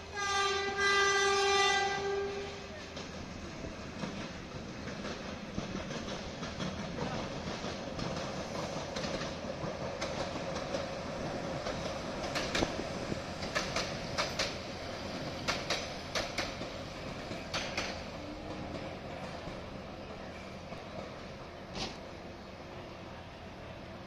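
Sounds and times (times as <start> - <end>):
train wagons rumbling past: 0.0 - 24.0
wheels clacking over rail joints: 1.5 - 22.2.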